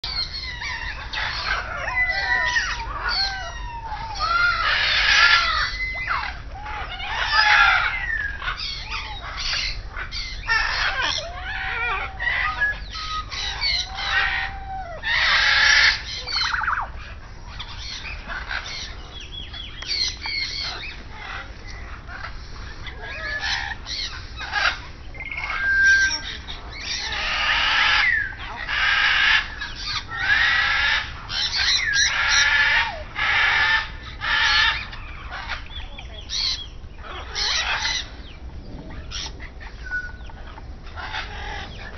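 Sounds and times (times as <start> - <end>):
birds squawking and whistling: 0.0 - 41.9.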